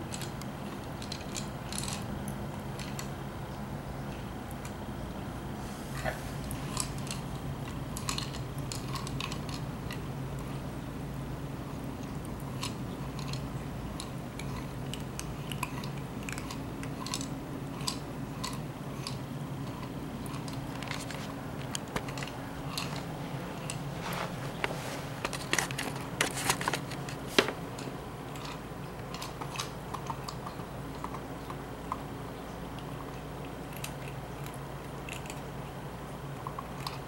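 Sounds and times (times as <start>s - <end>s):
kittens crunching cat treats: 0.0s - 3.2s, 5.7s - 10.7s, 11.8s - 37.0s
steady low hum: 0.0s - 37.0s.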